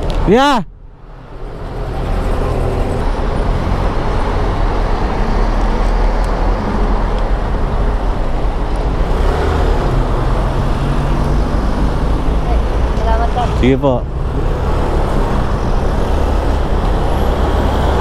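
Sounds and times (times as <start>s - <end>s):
truck and car engines passing: 0.0s - 18.0s.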